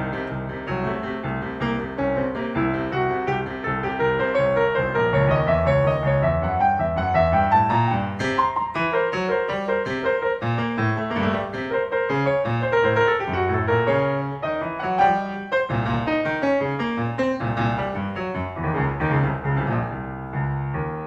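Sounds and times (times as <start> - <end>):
solo grand piano: 0.0 - 21.0.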